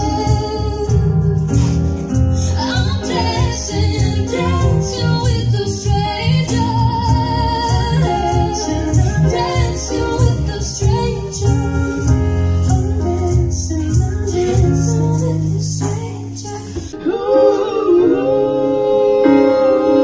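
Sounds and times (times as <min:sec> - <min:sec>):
woman singing: 0:00.0 - 0:01.8, 0:02.4 - 0:20.0
live band with bass and cymbals: 0:00.0 - 0:20.0.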